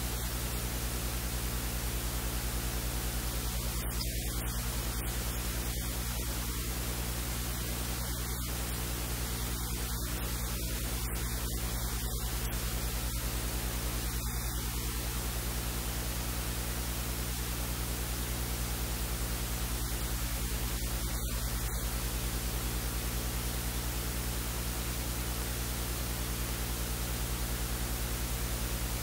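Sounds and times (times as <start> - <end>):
electrical hiss: 0.0 - 29.0
mains hum and buzz: 0.0 - 29.0.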